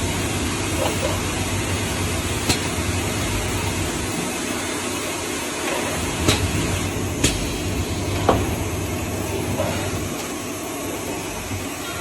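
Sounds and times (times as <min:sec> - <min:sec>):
mechanical noise with low hum: 0:00.0 - 0:12.0.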